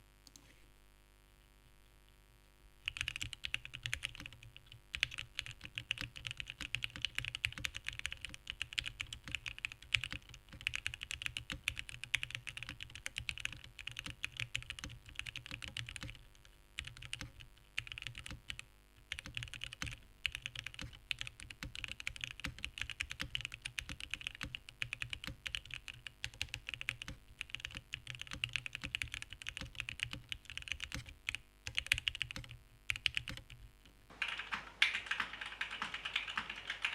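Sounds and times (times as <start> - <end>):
mechanical keyboard typing: 2.9 - 36.9.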